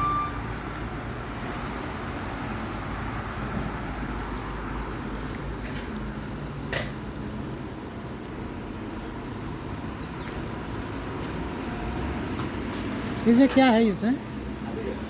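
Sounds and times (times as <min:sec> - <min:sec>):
traffic noise with low rumble: 0:00.0 - 0:15.0.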